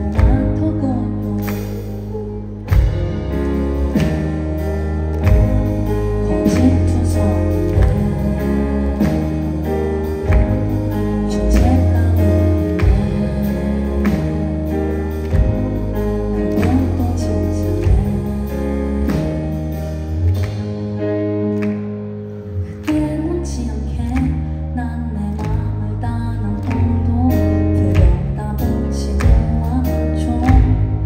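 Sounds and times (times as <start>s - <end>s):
woman singing: 0.0s - 4.0s, 5.2s - 19.8s, 22.8s - 31.0s
bass: 0.0s - 31.0s
drums: 0.0s - 31.0s.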